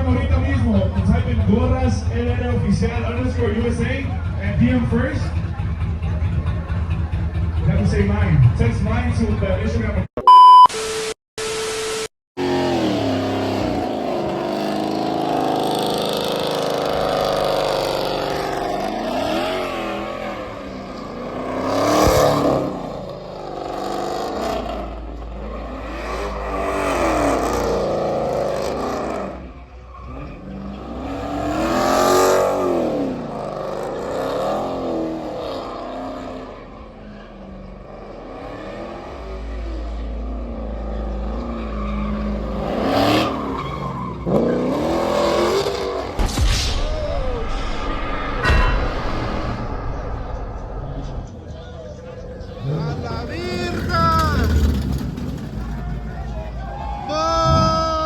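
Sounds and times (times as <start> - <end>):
vehicle engine revving: 0.0 - 10.0, 12.4 - 46.4, 49.6 - 57.6.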